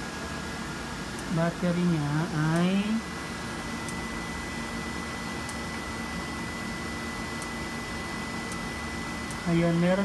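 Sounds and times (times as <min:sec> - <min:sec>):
cooling fans with electronic whine: 0:00.0 - 0:10.0.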